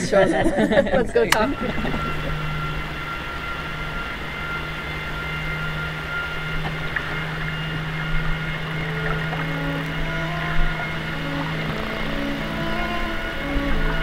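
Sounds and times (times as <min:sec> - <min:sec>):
faint steady whine: 0:00.0 - 0:14.0
ferry engines humming: 0:00.0 - 0:14.0
wash of noise: 0:01.6 - 0:14.0.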